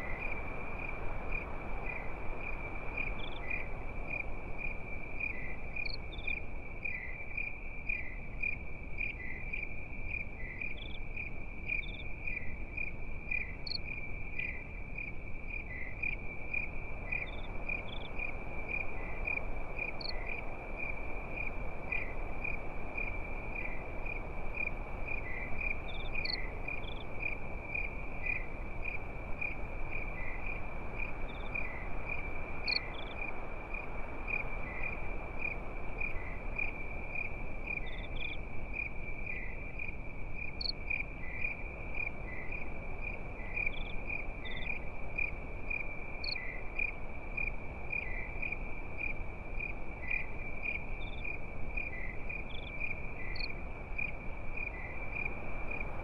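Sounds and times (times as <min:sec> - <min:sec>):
crickets trilling: 0:00.0 - 0:56.0
low background hiss: 0:00.0 - 0:56.0.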